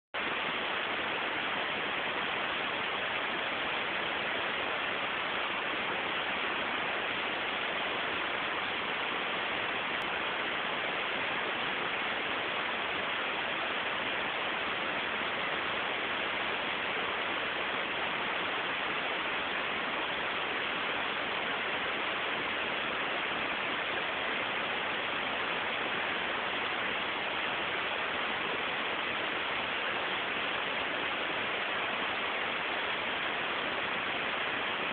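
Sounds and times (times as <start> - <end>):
static hiss: 0.2 - 34.9.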